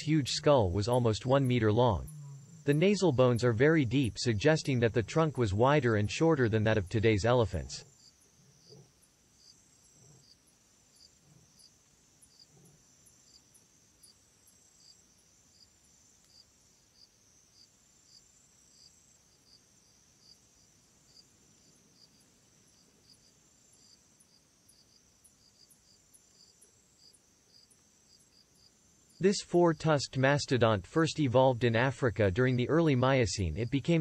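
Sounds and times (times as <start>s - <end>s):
insect trill: 0.0s - 34.0s
insects chirping: 0.0s - 34.0s.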